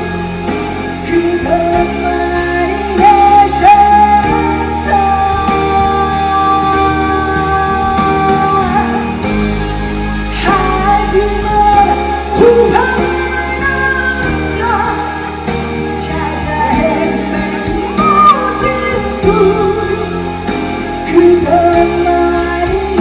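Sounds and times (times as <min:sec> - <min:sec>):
live band playing rock ballad: 0:00.0 - 0:23.0
person singing: 0:00.0 - 0:23.0.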